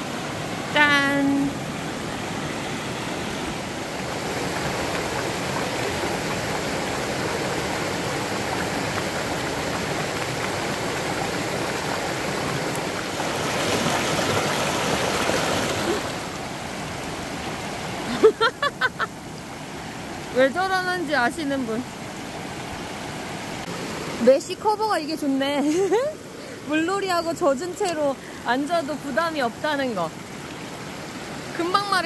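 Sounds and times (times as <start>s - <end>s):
stream rushing water: 0.0s - 32.0s.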